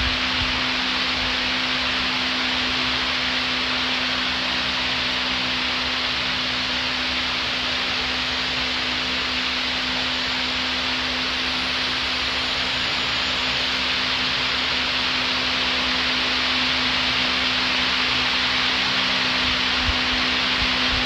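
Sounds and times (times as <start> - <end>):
wall fan running: 0.0 - 21.0.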